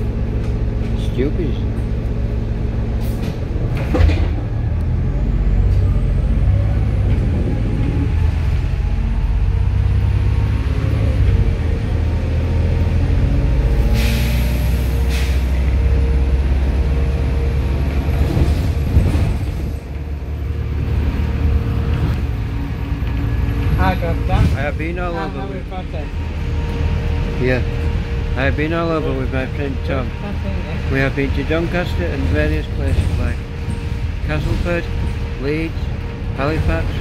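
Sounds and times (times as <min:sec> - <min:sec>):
bus engine droning: 0:00.0 - 0:37.0.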